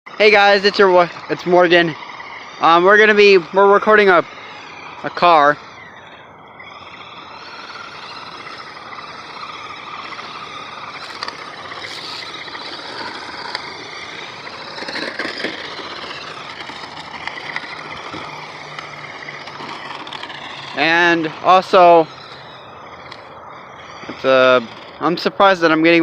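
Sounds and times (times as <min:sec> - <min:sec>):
toy car electric motor whine: 0:00.2 - 0:26.0.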